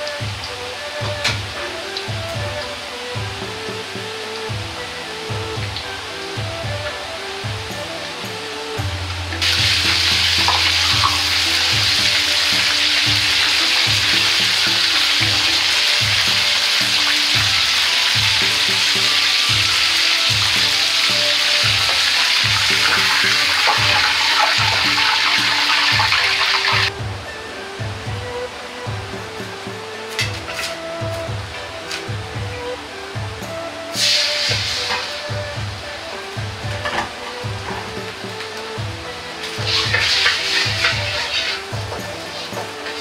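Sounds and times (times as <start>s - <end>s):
dumplings sizzling in hot oil: 0.0s - 28.7s, 33.8s - 43.0s.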